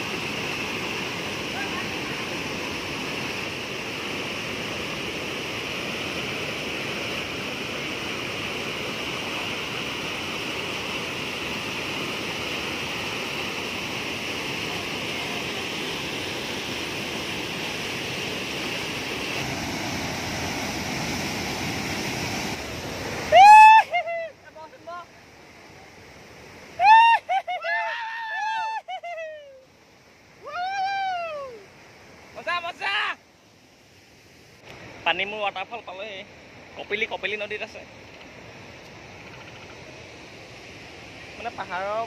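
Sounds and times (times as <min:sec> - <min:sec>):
water rushing over rapids: 0:00.0 - 0:42.0.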